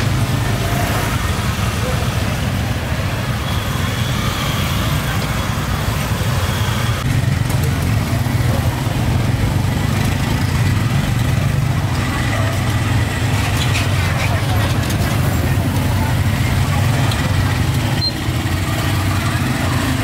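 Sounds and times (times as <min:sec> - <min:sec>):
motorbike traffic: 0:00.0 - 0:20.0
street market ambience: 0:00.0 - 0:20.0.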